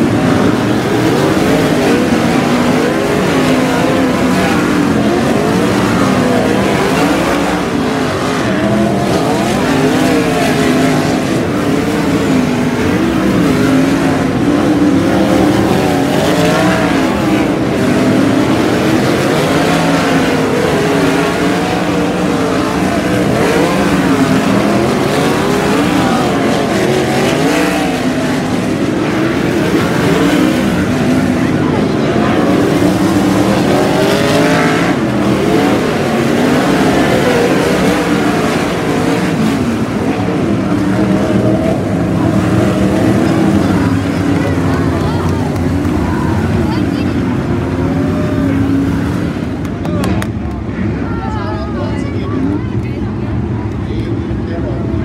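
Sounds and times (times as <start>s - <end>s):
racing car engines: 0.0s - 55.0s.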